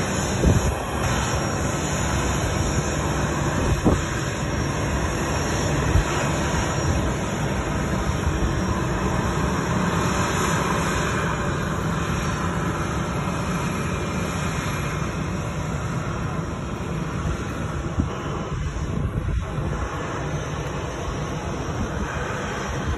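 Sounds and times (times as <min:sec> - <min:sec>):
jet engines roaring: 0:00.0 - 0:22.9.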